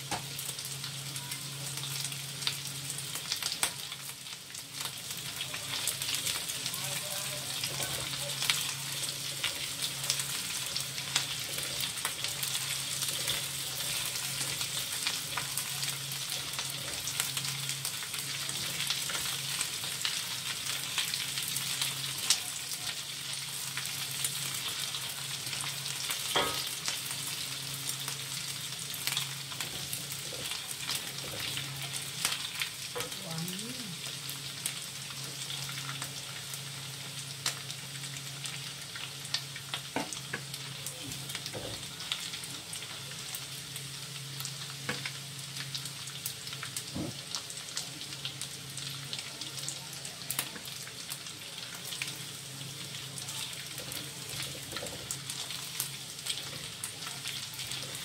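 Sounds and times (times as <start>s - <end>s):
anchovies sizzling in oil: 0.0s - 58.0s.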